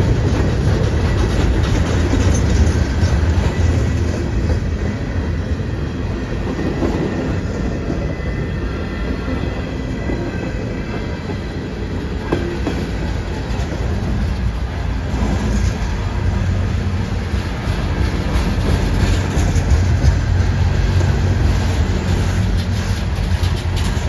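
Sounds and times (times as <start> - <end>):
train cars rumbling on rails: 0.0 - 24.0.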